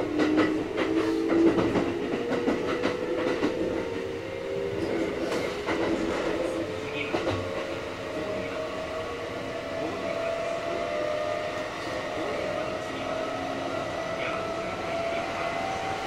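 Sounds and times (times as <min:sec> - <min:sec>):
electric train rumble: 0:00.0 - 0:16.0.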